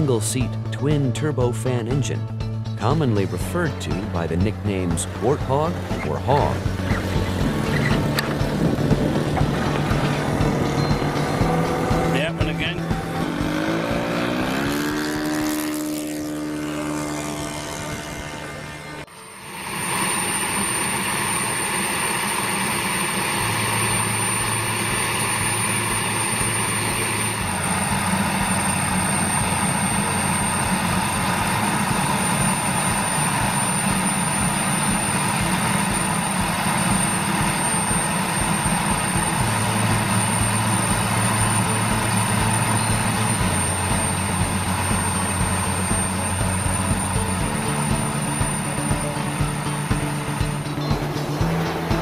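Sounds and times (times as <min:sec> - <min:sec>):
jet turbine whine: 0:03.2 - 0:52.0.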